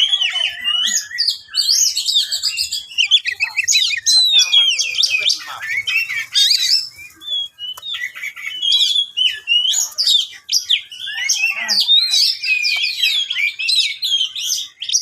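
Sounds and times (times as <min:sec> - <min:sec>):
bird singing chirps and trills: 0:00.0 - 0:15.0.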